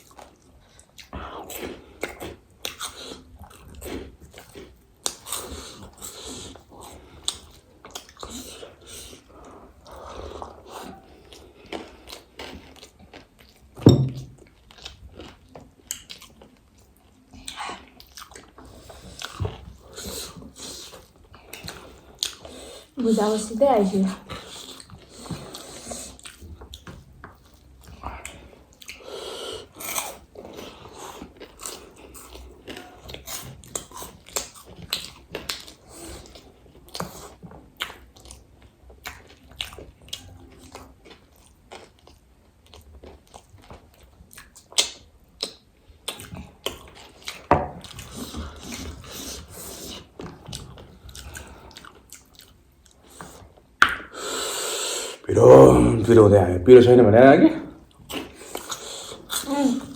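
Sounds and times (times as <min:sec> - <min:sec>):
chewing and crunching snacks: 0:00.0 - 0:23.0, 0:24.0 - 0:53.8, 0:57.8 - 0:59.9.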